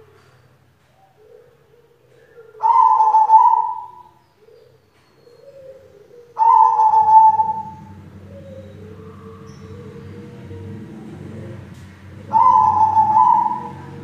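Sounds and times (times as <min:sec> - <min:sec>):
dove cooing: 0:00.9 - 0:14.0.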